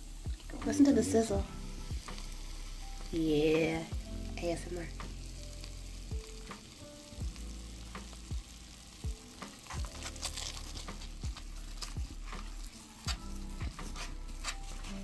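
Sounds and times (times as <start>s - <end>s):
clay mask fizzing and crackling: 0.0s - 15.0s.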